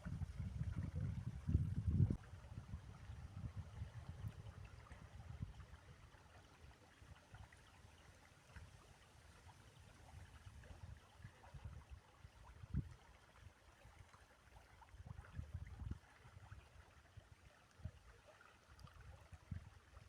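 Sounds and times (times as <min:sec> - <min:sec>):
faint trickling stream: 0:00.0 - 0:20.0.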